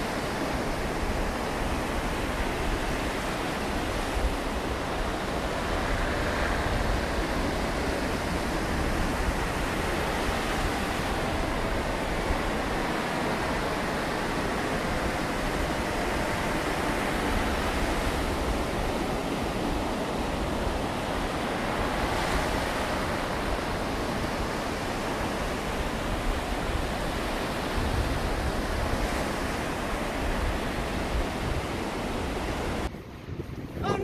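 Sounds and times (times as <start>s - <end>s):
sea surf breaking: 0.0s - 34.0s
wind buffeting microphone: 0.0s - 34.0s.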